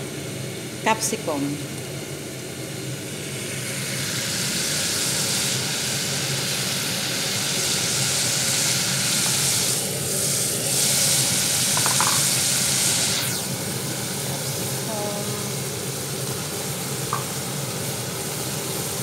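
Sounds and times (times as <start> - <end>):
vegetables sizzling in oil: 0.1 - 19.0.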